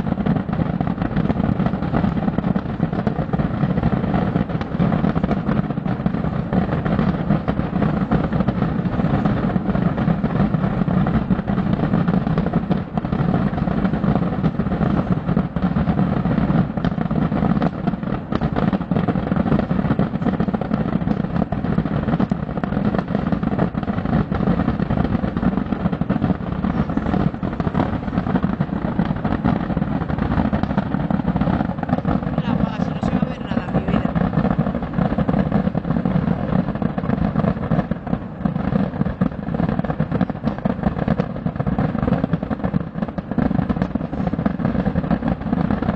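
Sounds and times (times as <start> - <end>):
distant fireworks crackle and rumble: 0.0 - 45.9.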